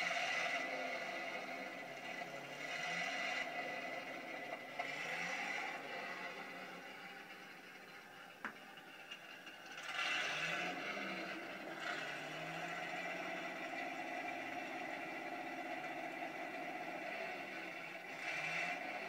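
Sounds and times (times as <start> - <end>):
simulated tank engine: 0.0 - 19.0.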